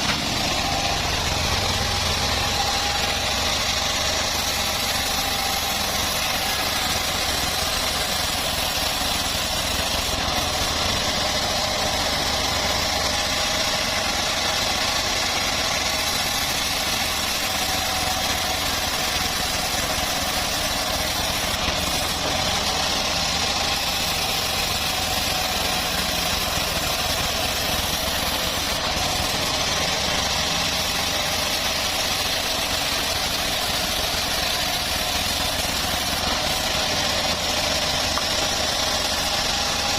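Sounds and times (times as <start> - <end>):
bandsaw mill machine drone: 0.0 - 39.9.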